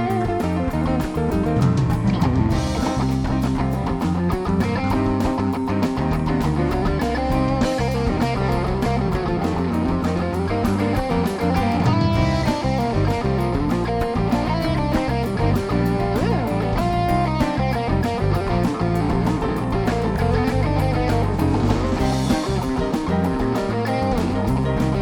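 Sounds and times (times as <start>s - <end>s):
electric guitar: 0.0s - 25.0s
live rock band playing: 0.0s - 25.0s.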